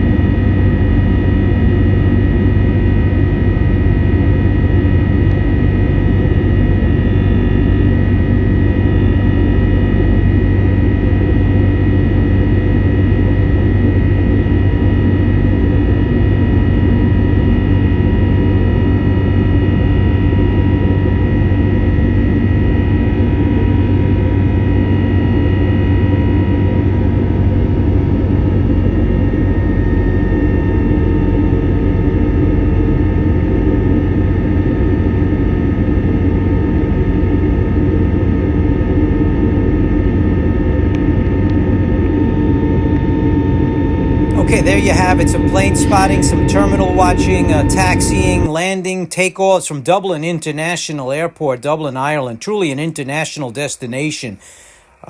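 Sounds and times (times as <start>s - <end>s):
jet engine rumble and whine: 0.0s - 49.6s.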